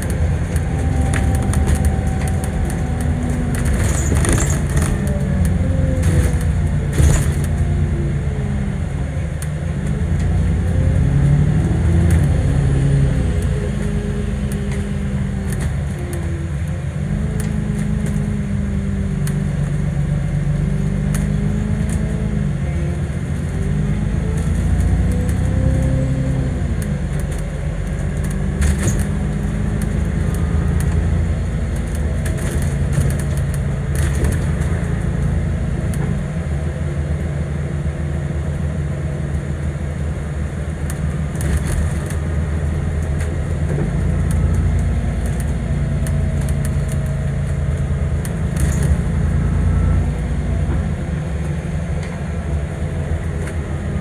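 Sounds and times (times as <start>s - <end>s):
bus engine changing gear: 0.0s - 54.0s
clicks and rattles inside bus: 0.0s - 54.0s.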